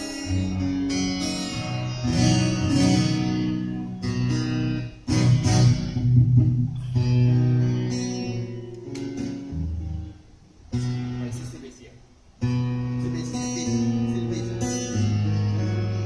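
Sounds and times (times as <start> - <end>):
acoustic guitar strumming: 0.0 - 11.7, 12.4 - 16.0.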